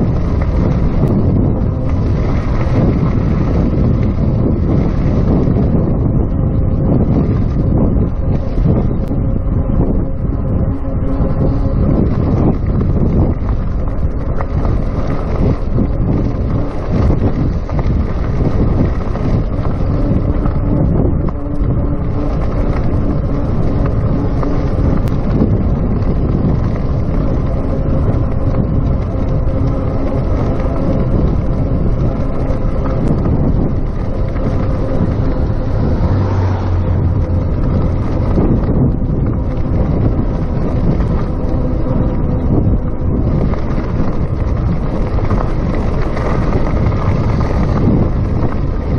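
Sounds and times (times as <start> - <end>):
faint steady hum: 0.0 - 48.9
wind buffeting microphone: 0.0 - 48.9.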